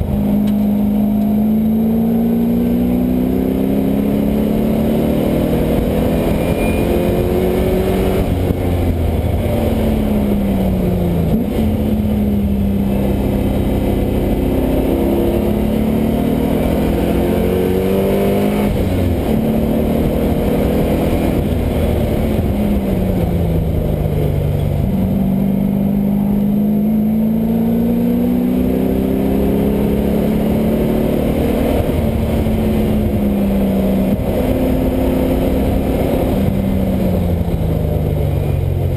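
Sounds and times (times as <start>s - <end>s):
car engine revving on track: 0.0s - 38.9s.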